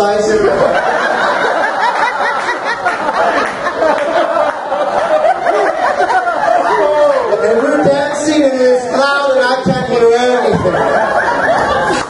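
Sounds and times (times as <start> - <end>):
audience laughing: 0.2 - 8.6, 9.9 - 12.0.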